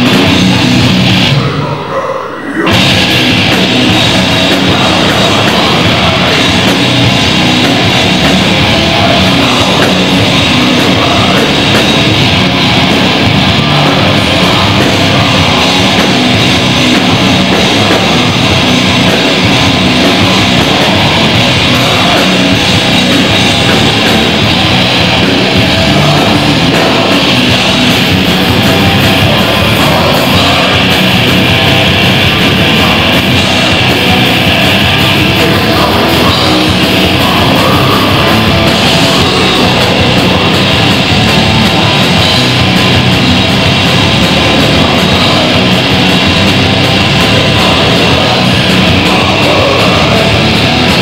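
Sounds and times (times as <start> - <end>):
heavy metal band playing live: 0.0 - 51.0.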